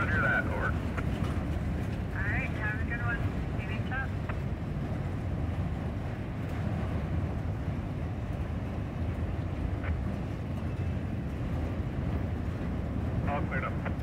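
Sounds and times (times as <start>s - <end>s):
freight cars rumbling on rails: 0.0s - 14.0s.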